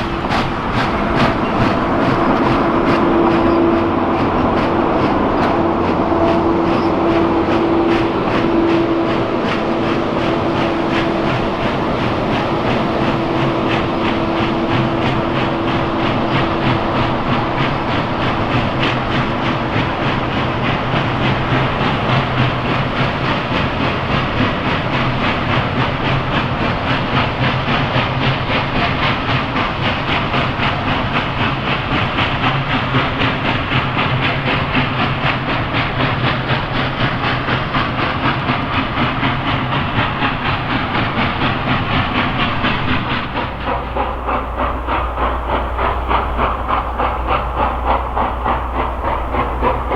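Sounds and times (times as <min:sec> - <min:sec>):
steam train chuffing: 0:00.0 - 0:49.9.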